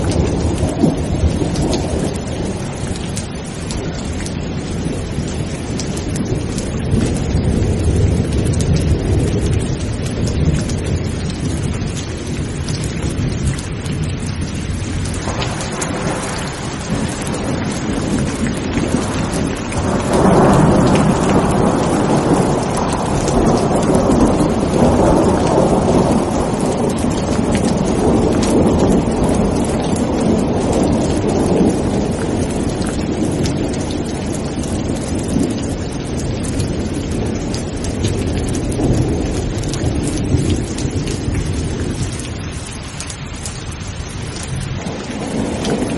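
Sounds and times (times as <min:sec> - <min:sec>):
steady rain falling: 0:00.0 - 0:45.9
thunder rumbling: 0:00.0 - 0:45.9.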